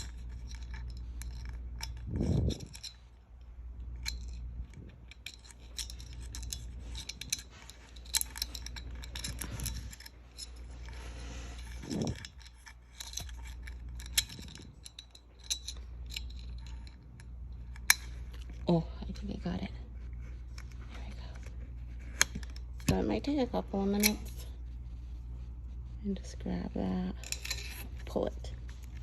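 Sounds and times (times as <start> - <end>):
low steady hum: 0.0 - 29.0
small metallic clicks and scrapes: 0.0 - 29.0.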